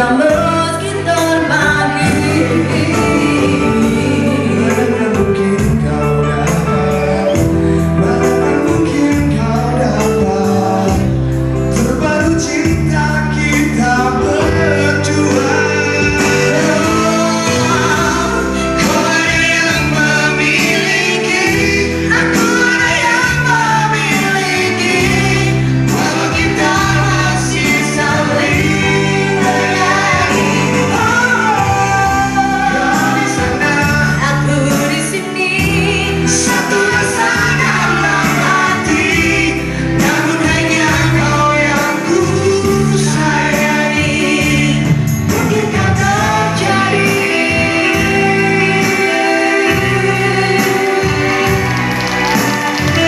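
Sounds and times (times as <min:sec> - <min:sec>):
instrumental accompaniment: 0:00.0 - 0:53.0
woman and man singing duet: 0:00.0 - 0:53.0.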